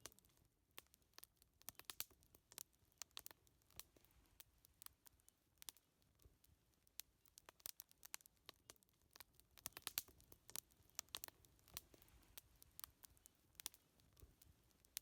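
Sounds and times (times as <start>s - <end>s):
faint low hiss: 0.0s - 15.0s
wood fire crackling: 0.0s - 15.0s.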